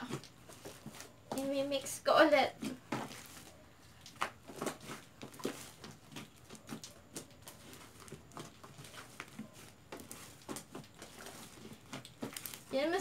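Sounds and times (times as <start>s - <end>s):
slime kneaded by hand: 0.0s - 13.0s.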